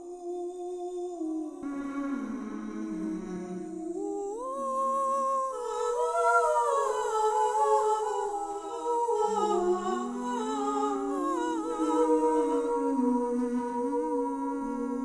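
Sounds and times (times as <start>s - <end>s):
voices humming in harmony: 0.0s - 15.0s.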